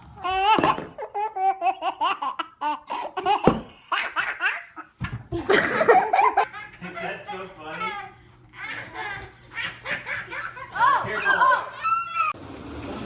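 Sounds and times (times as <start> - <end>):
toddler laughing: 0.2 - 12.4.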